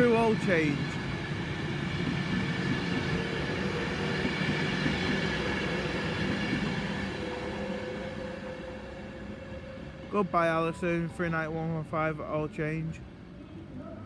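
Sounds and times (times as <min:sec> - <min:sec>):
train wheels rumbling on rail: 0:00.0 - 0:12.2
electric train hum: 0:00.0 - 0:14.0.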